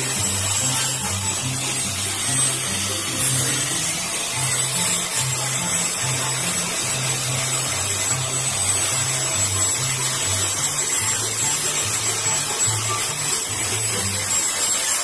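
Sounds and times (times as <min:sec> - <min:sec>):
background music with bass line: 0:00.0 - 0:14.8
angle grinder sanding wood: 0:00.0 - 0:15.0.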